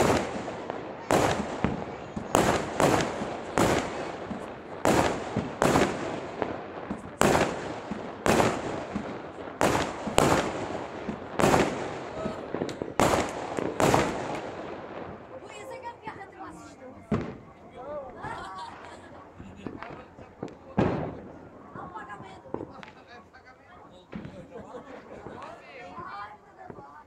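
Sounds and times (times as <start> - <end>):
fireworks bangs: 0.0 - 23.1, 24.0 - 27.0.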